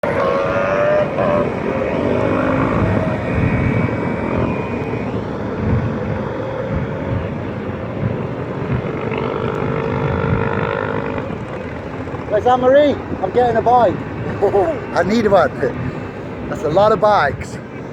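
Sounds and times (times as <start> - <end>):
motorcycle engines droning: 0.0 - 17.9.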